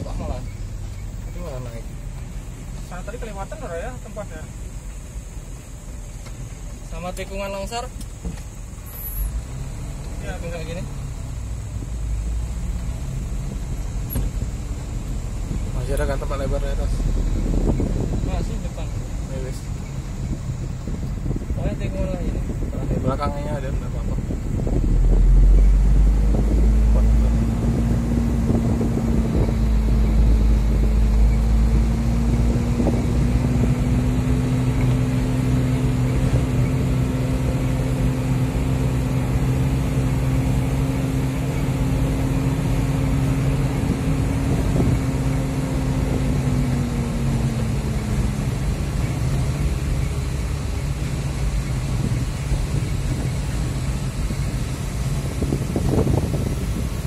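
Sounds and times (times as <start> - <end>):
road rumble: 0.0 - 57.0
truck diesel engine running: 0.0 - 57.0.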